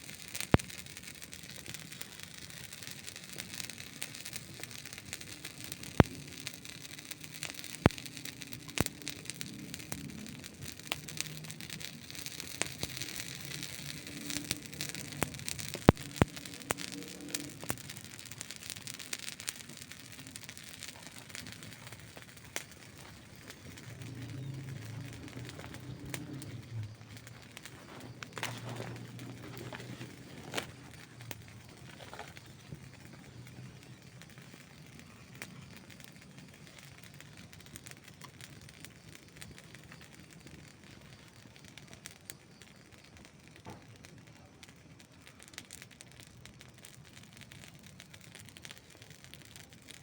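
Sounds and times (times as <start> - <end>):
campfire crackling and popping: 0.0 - 50.0
low rumble of flames: 0.0 - 50.0.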